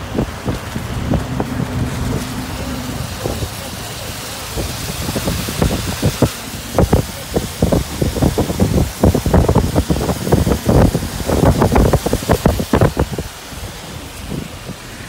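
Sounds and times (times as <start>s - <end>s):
raindrops tapping on car: 0.0s - 15.0s
tyre and road noise: 0.0s - 15.0s.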